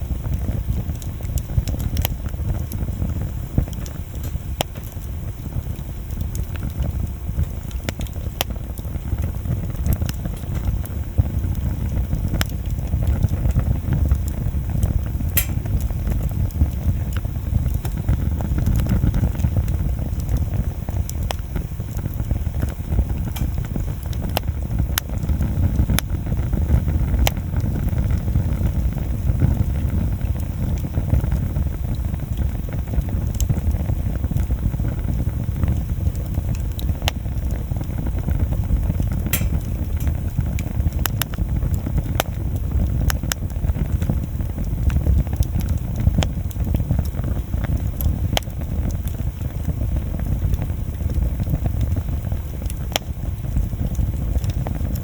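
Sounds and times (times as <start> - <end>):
bonfire rumbling and crackling: 0.0 - 55.0.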